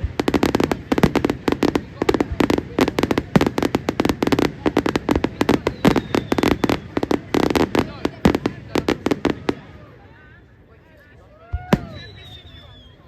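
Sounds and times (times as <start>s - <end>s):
fireworks bangs and crackles: 0.0s - 10.2s, 11.4s - 13.0s.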